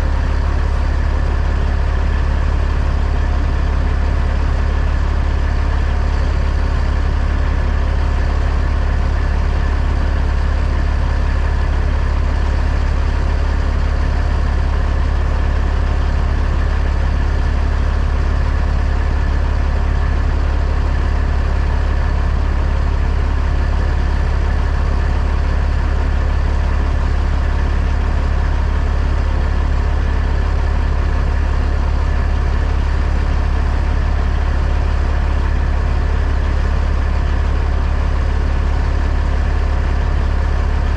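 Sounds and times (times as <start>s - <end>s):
heavy truck engine droning: 0.0s - 40.9s.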